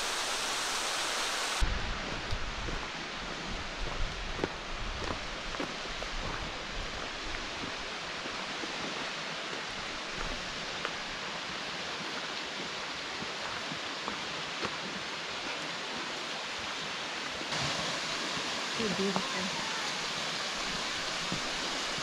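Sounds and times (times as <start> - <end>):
waterfall rushing: 0.0 - 1.8, 5.8 - 22.0.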